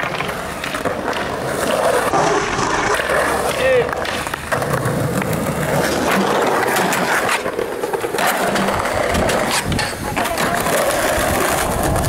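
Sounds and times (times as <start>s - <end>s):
skateboard clacks and scrapes: 0.0s - 12.0s
skateboard wheels rolling on concrete: 0.0s - 12.0s.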